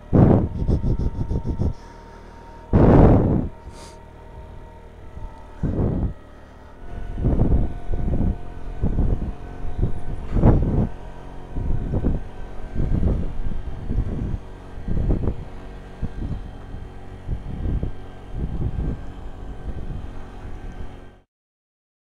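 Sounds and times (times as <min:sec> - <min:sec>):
wind buffeting microphone: 0:00.0 - 0:21.2
faint engine drone: 0:00.0 - 0:21.3.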